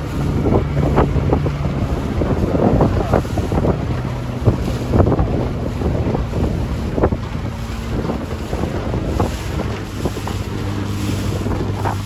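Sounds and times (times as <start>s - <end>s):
outboard motor hum: 0.0s - 12.0s
waves washing: 0.0s - 12.0s
wind buffeting microphone: 0.0s - 12.0s.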